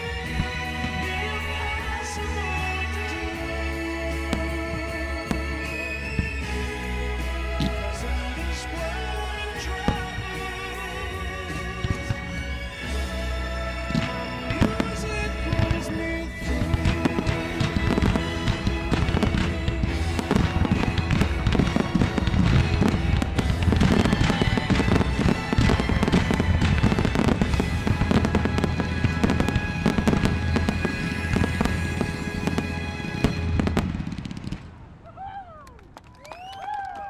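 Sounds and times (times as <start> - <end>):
loud music: 0.0 - 34.2
fireworks bangs and crackles: 0.0 - 35.2.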